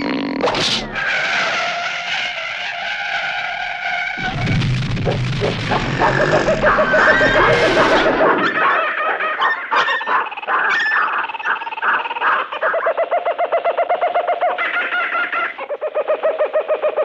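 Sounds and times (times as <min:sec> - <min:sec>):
clucking bird-like calls: 0:00.5 - 0:17.0.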